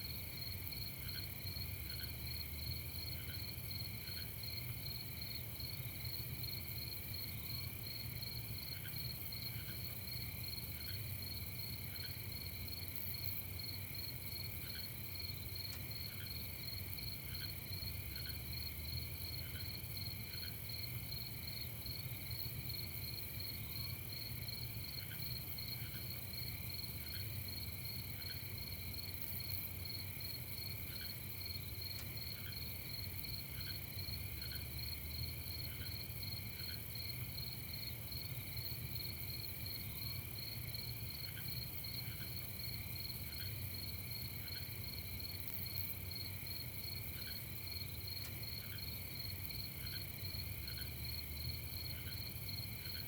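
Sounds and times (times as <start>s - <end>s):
crickets and insects trilling: 0.1s - 53.0s.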